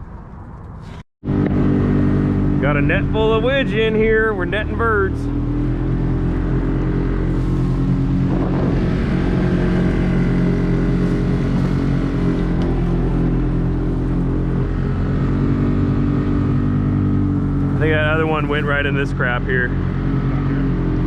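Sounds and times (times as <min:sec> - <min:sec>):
boat motor running: 0:01.2 - 0:21.0.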